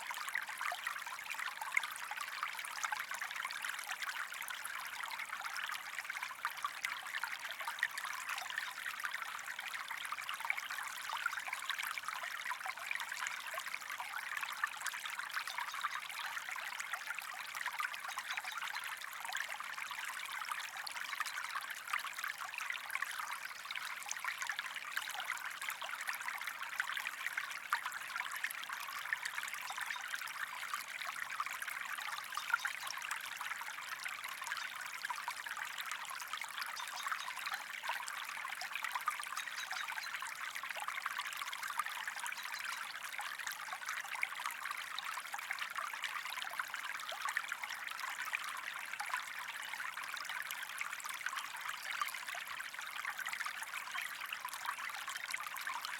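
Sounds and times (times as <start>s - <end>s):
creek water trickling: 0.0s - 55.9s.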